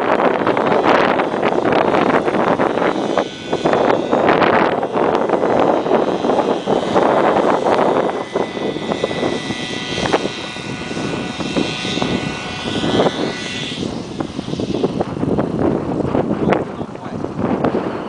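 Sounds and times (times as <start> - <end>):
model helicopter whining: 0.0 - 18.0
wind buffeting microphone: 0.0 - 18.0.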